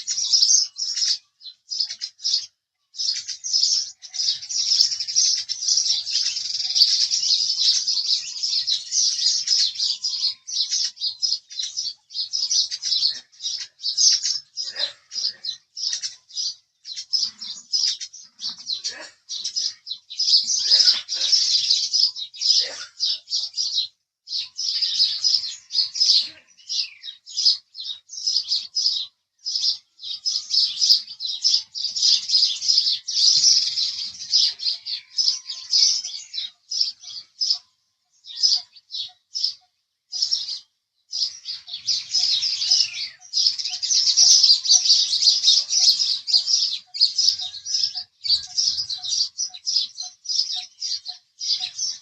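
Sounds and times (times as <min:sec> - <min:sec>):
sparrows chirping: 0:00.0 - 0:52.0.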